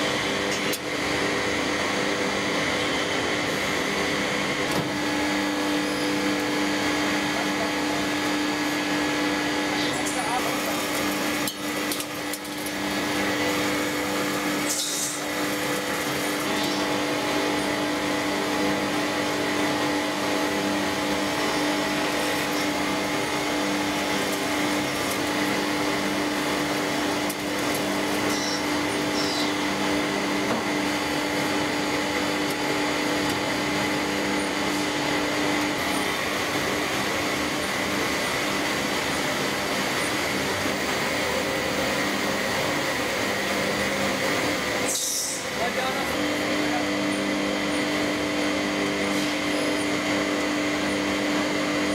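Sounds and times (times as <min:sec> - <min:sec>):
lathe machine hum: 0:00.0 - 0:51.9.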